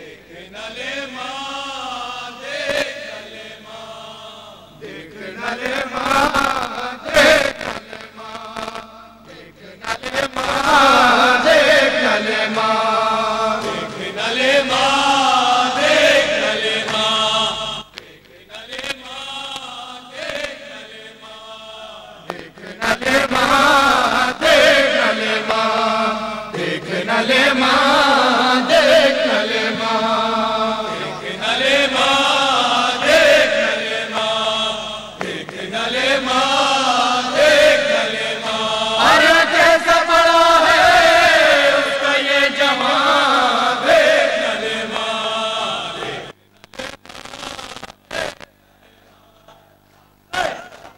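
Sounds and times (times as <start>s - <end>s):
voices chanting a mourning lament: 0.0s - 46.4s, 48.1s - 50.9s.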